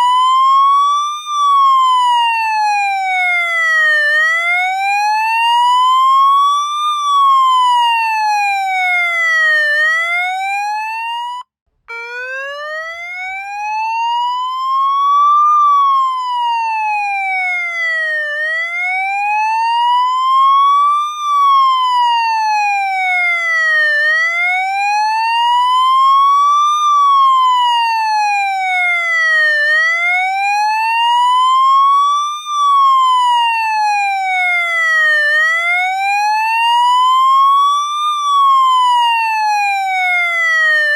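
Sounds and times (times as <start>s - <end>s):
police siren wailing: 0.0s - 40.9s.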